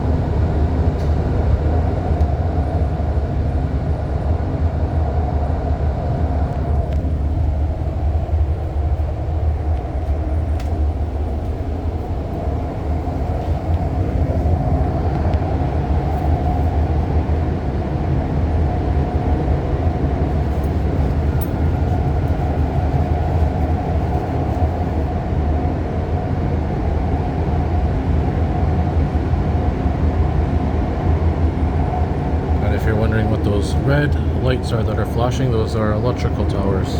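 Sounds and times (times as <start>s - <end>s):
constant hum: 0.0s - 36.9s
train wheels rumbling on rail: 0.0s - 36.9s.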